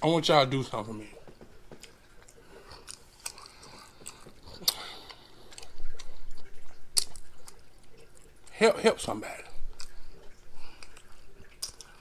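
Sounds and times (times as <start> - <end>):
person chewing food: 1.2 - 8.6, 9.4 - 12.0.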